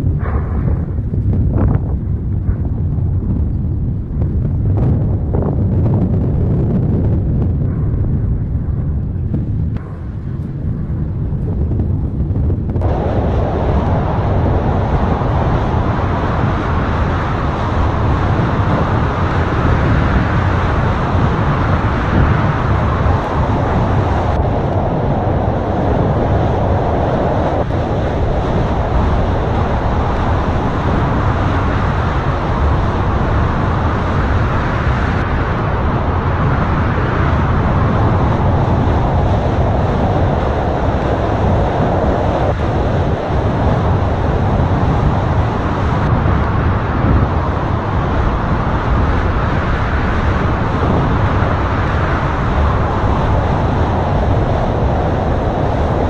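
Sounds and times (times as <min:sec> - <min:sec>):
lava fountain erupting: 0:00.0 - 0:56.0.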